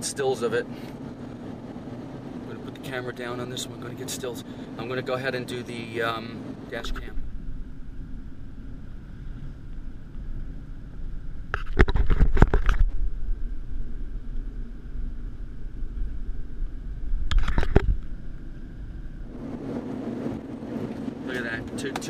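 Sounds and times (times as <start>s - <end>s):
road and engine rumble in a cabin: 0.0s - 22.0s.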